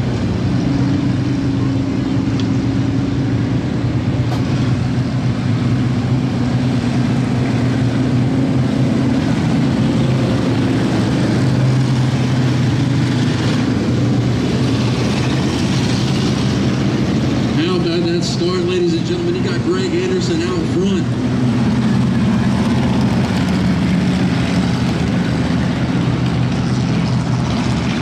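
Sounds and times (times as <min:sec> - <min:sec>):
race car engines droning: 0:00.0 - 0:28.0.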